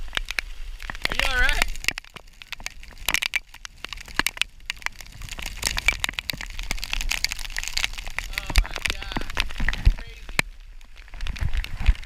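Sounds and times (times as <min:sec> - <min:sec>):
heavy rain on deck: 0:00.0 - 0:12.0.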